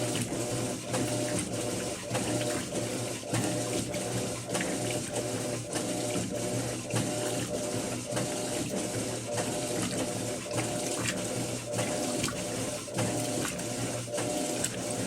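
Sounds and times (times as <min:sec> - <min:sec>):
washing machine motor hum: 0:00.0 - 0:15.0
water sloshing and churning: 0:00.0 - 0:15.0.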